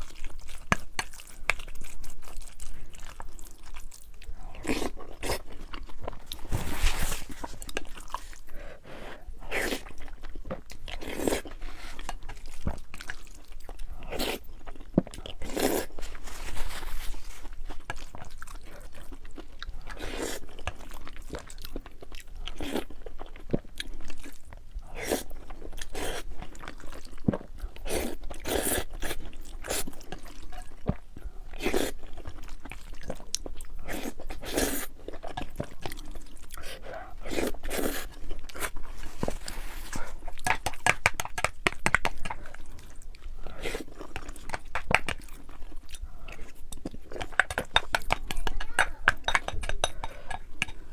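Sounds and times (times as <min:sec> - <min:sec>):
person chewing crunchy food: 0:00.0 - 0:50.9.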